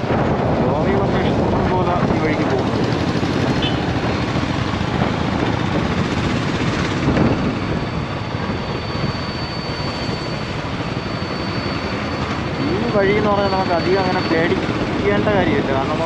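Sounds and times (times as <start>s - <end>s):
vehicle engine rumble: 0.0s - 16.0s
wind rushing over microphone: 0.0s - 16.0s.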